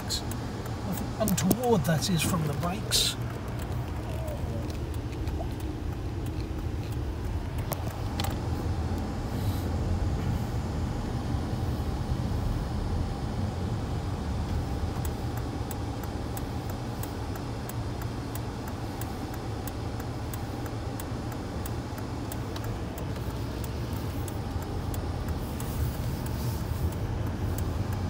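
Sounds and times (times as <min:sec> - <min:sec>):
car engine and road rumble: 0:00.0 - 0:28.0
turn signal ticking: 0:00.0 - 0:28.0.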